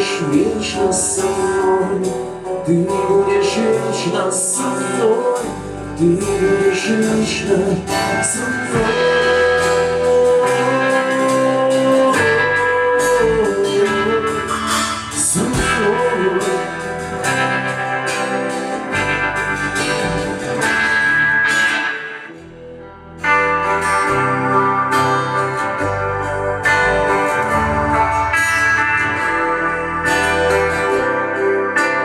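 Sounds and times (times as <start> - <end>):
band playing with lead guitar: 0.0 - 32.0.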